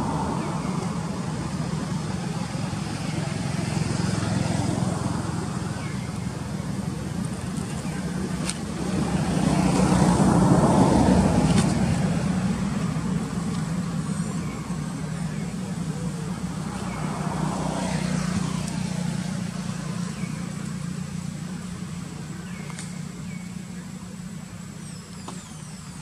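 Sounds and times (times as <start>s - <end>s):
vehicle engine passing: 0.0s - 24.8s.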